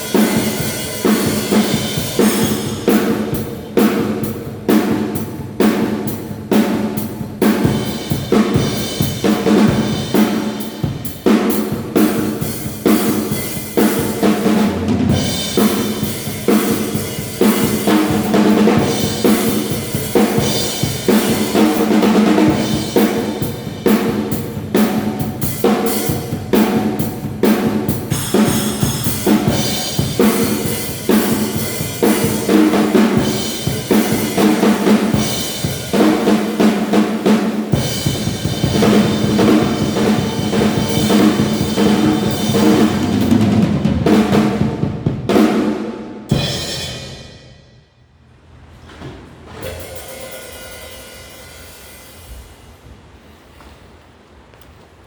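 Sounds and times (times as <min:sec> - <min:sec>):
drum kit playing a beat: 0:00.0 - 0:47.5, 0:49.6 - 0:52.4.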